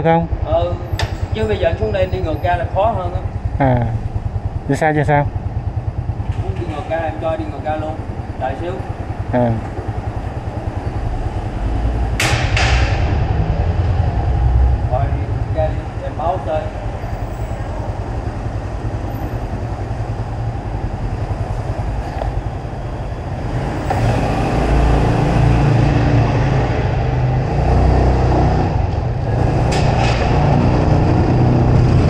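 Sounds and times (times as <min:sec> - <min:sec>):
road noise rushing: 0:00.0 - 0:32.0
vehicle engine: 0:00.0 - 0:32.0.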